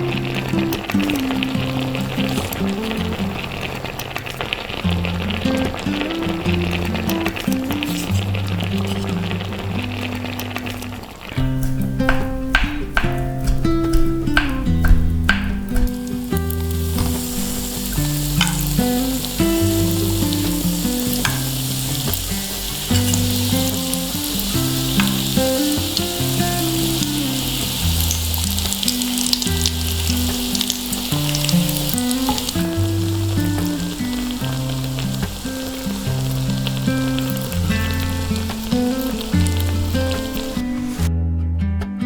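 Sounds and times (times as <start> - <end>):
food sizzling in oil: 0.0 - 41.1
soft background music: 0.0 - 41.2.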